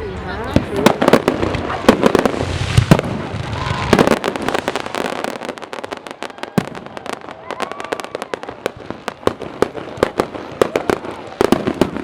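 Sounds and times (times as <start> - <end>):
fireworks crackling pops: 0.4 - 12.0.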